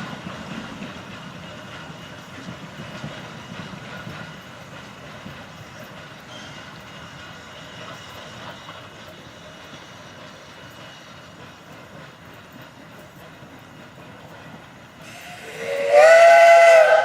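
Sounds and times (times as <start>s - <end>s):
train running rumble and hiss: 0.0s - 17.0s.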